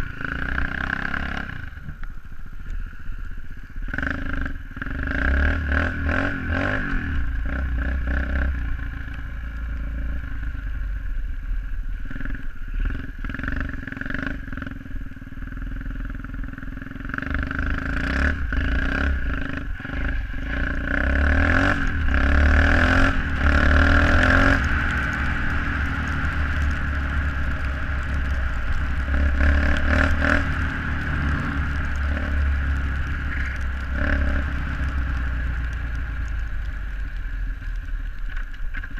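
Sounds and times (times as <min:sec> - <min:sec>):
pit bike engine: 0:00.0 - 0:38.9.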